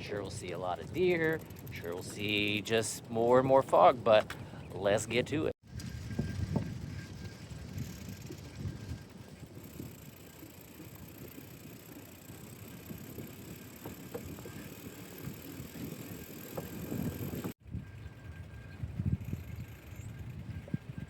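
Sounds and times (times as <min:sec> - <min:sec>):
bicycle tyres on road: 0:00.0 - 0:21.0
wind buffeting microphone: 0:00.0 - 0:21.0.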